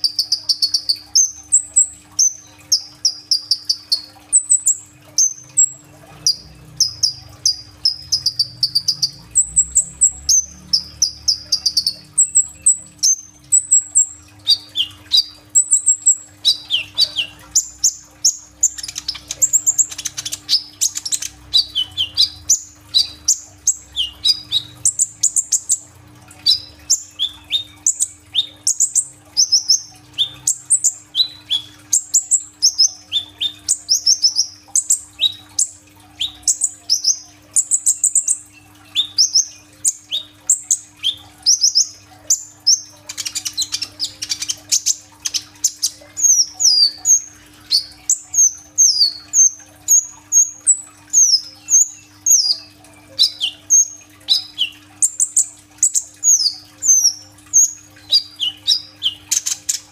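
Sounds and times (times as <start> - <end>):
sunbird singing high chirps: 0.0 - 25.8, 26.4 - 59.8.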